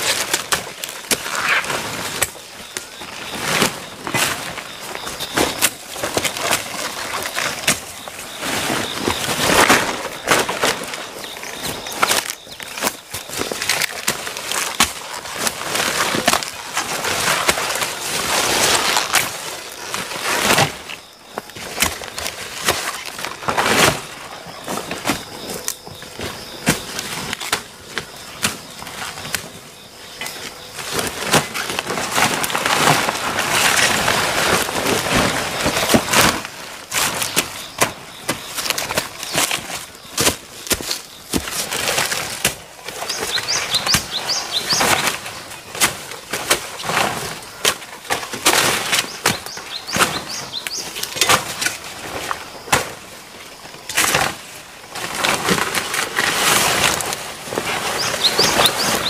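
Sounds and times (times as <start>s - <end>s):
leaves and undergrowth rustling: 0.0s - 59.0s.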